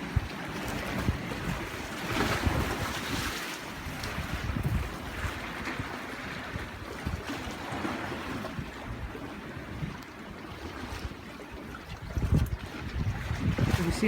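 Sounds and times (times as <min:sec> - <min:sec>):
wind gusting on microphone: 0:00.0 - 0:10.0, 0:11.8 - 0:14.0
choppy water: 0:00.0 - 0:14.0.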